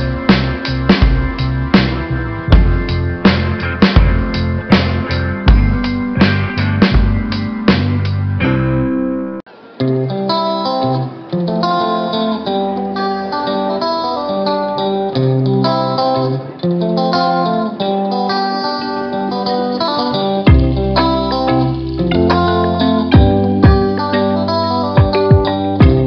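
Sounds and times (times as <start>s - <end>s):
plucked guitar tune: 0.0s - 26.0s.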